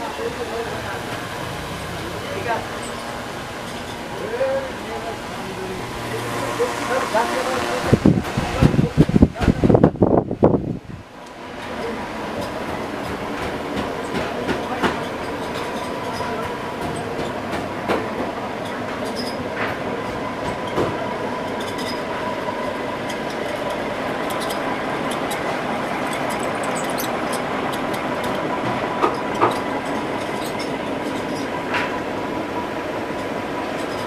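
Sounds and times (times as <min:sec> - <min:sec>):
machine noise with whine: 0:00.0 - 0:34.0.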